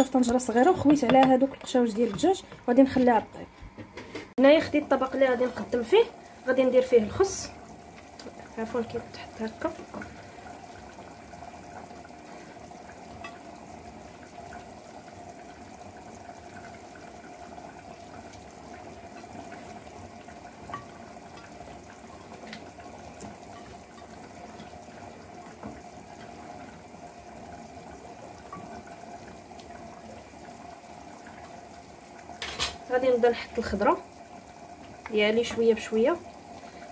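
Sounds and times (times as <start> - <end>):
steady watery hiss: 4.9 - 36.9.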